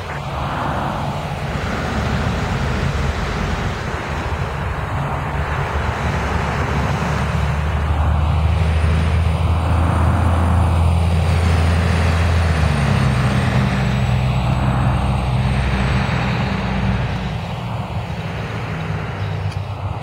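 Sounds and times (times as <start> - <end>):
diesel bus engine humming: 0.0 - 20.0
tyre noise from passing cars: 0.0 - 20.0.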